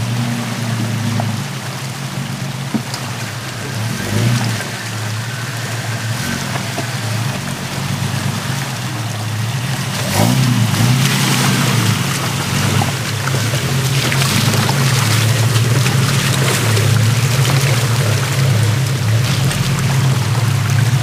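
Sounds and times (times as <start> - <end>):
car engine revving under load: 0.0 - 21.0
water splashing around tyres: 0.0 - 21.0.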